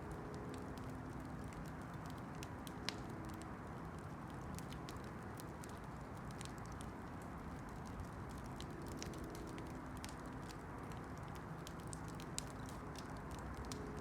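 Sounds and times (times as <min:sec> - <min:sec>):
campfire crackling and popping: 0:00.1 - 0:14.0.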